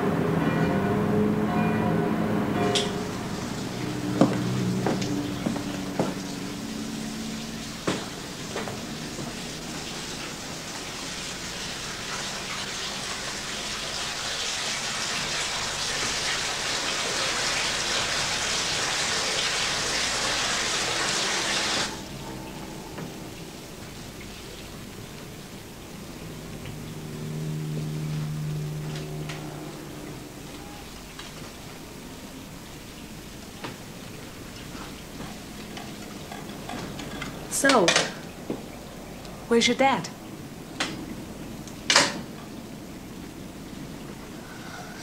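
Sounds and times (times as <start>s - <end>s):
water running: 1.5s - 45.0s.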